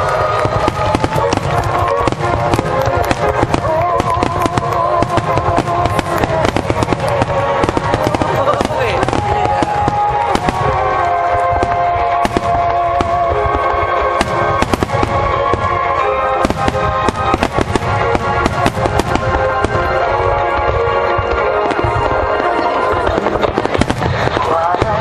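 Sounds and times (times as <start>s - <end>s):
fireworks bangs and crackles: 0.0s - 25.0s
music with long held notes: 0.0s - 25.0s.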